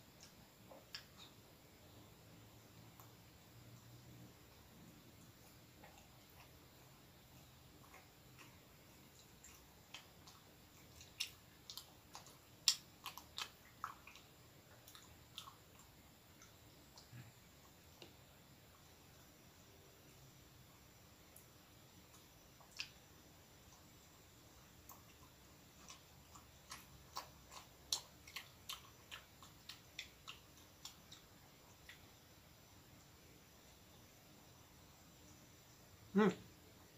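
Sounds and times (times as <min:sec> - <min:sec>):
person chewing bread: 0:00.0 - 0:19.3, 0:20.0 - 0:33.2.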